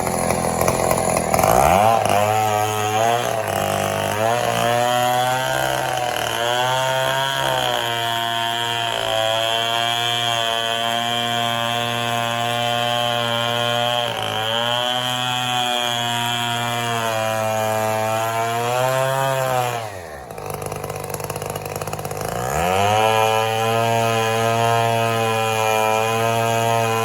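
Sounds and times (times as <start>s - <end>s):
chainsaw running: 0.0s - 27.0s.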